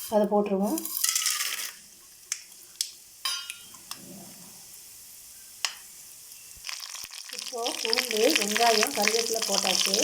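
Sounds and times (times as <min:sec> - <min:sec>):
oil sizzling: 0:00.0 - 0:10.0.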